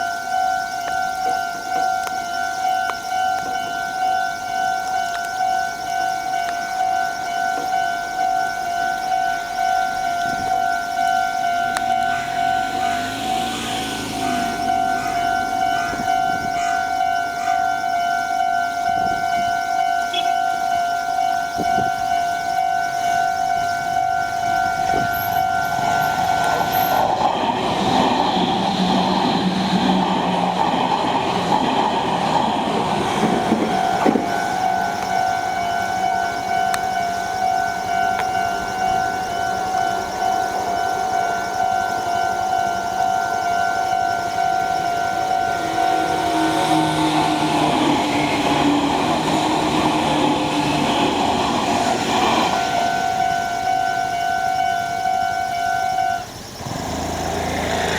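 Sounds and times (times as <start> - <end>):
level crossing bell ringing: 0.0 - 27.3, 33.0 - 56.6
train passing: 0.0 - 57.9.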